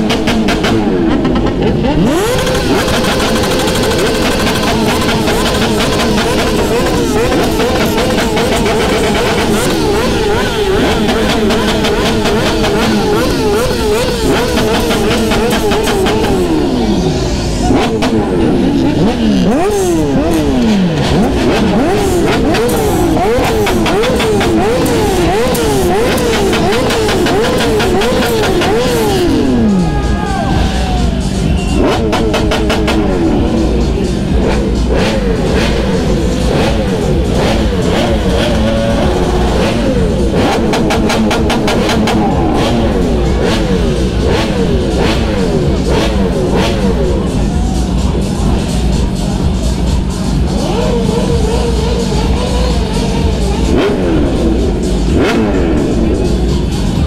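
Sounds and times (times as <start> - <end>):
rapid exhaust pops: 0.0 - 16.6, 17.7 - 29.6, 31.3 - 57.0
motorcycle engines revving: 0.0 - 57.0.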